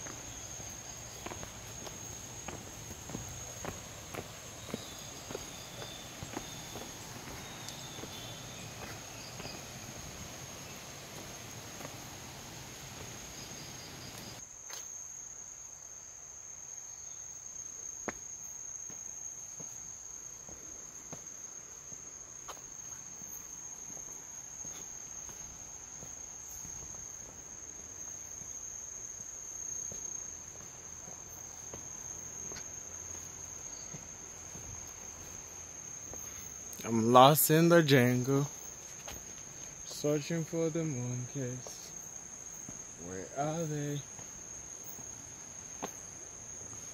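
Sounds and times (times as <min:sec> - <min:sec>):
insects trilling: 0:00.0 - 0:46.9.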